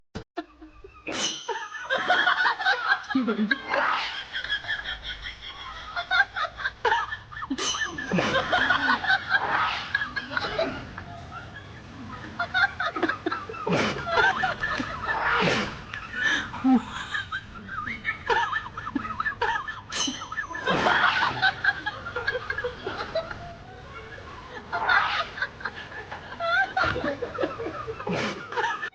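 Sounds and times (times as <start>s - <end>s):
people laughing: 0.4s - 28.9s
voices: 0.4s - 28.9s.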